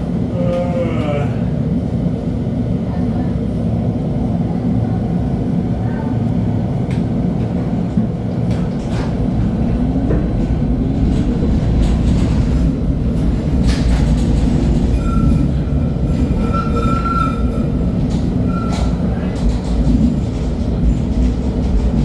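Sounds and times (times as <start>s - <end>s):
light-rail car rumbling: 0.0s - 22.0s.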